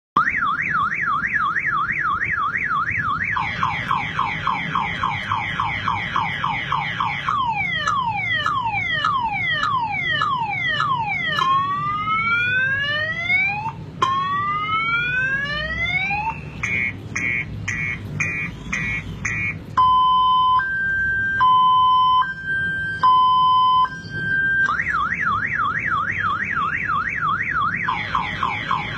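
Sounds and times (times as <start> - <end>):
car alarm siren: 0.2 - 28.9.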